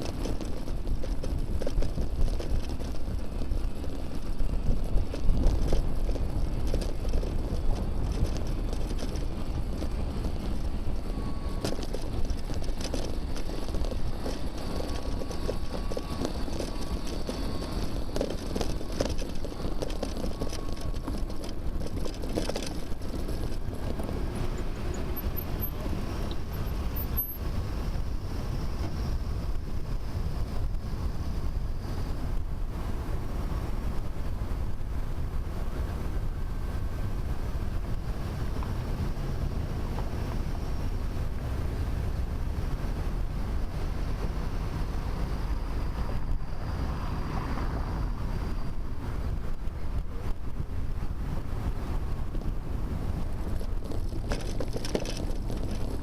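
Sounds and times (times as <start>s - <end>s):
bicycle road rumble: 0.0s - 56.0s.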